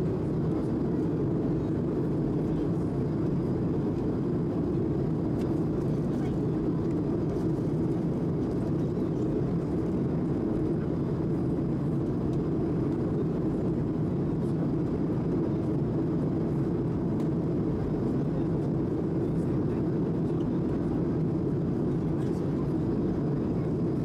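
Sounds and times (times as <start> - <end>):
airliner cabin rumble: 0.0 - 24.0
jet engines droning: 0.0 - 24.0.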